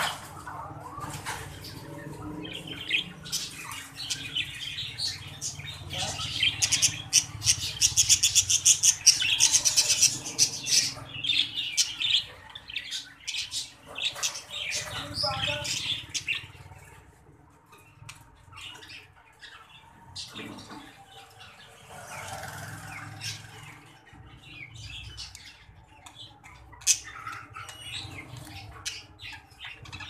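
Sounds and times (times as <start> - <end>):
budgerigars chattering and chirping: 0.0 - 30.0.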